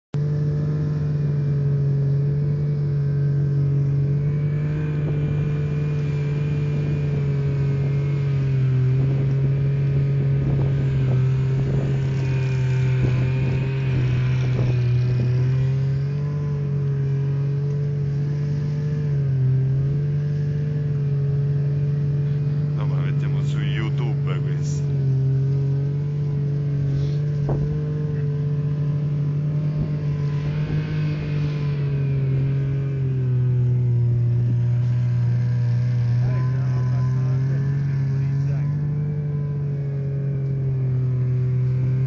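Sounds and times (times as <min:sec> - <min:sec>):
snowmobile engine running: 0:00.2 - 0:42.0.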